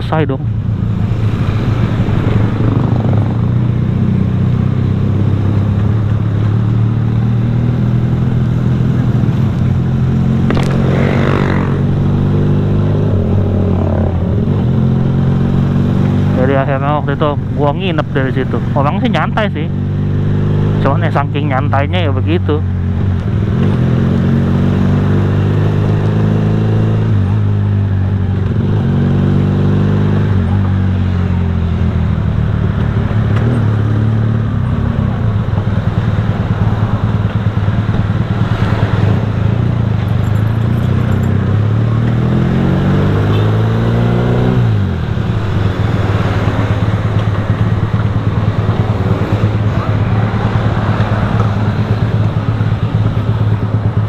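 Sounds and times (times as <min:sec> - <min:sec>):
motorcycle engine accelerating: 0:00.0 - 0:21.2, 0:22.4 - 0:54.0
road and wind noise: 0:00.0 - 0:54.0.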